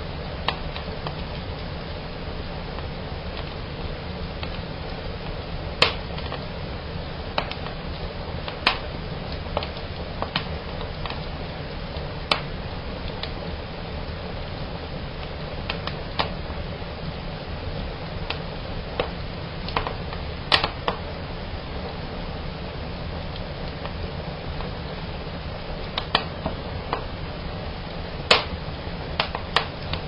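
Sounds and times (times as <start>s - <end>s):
fire crackling and popping: 0.0s - 30.0s
steady low rumble: 0.0s - 30.0s.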